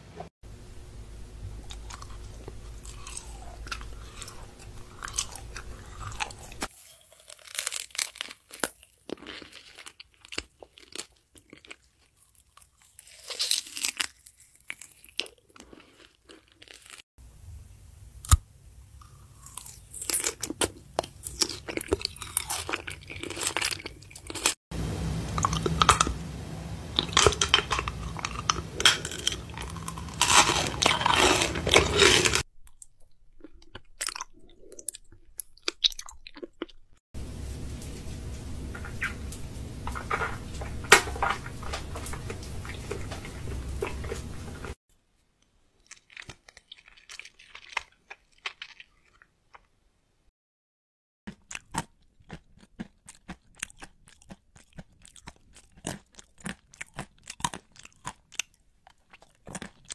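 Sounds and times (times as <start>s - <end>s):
person chewing crunchy food: 1.5s - 17.1s, 19.0s - 24.6s, 25.3s - 26.2s, 26.9s - 37.0s, 39.9s - 44.8s, 45.8s - 49.8s, 51.3s - 59.9s.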